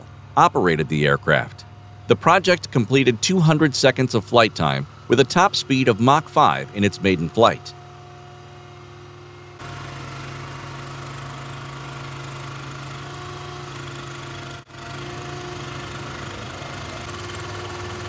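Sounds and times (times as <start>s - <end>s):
ground equipment engine drone: 0.0s - 18.0s.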